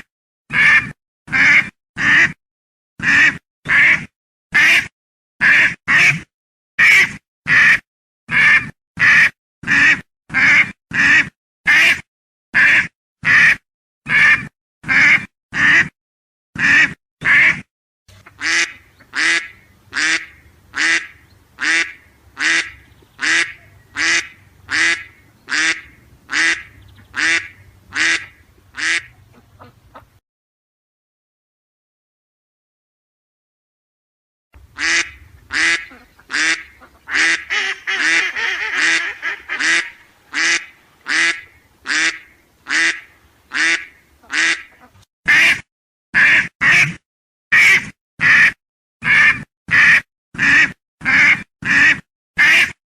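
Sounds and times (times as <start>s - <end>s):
duck quacking: 0.5s - 2.4s, 3.0s - 16.0s, 16.6s - 30.2s, 34.6s - 47.0s, 47.6s - 52.8s.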